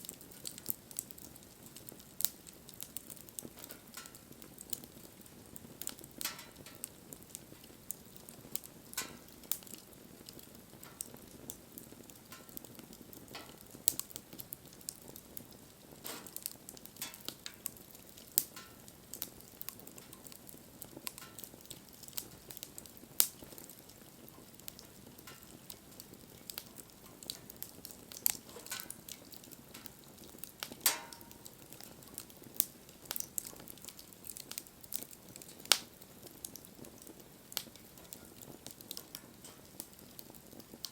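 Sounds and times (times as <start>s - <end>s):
soft steady hiss: 0.0s - 40.9s
wood fire crackling and popping: 0.0s - 40.9s.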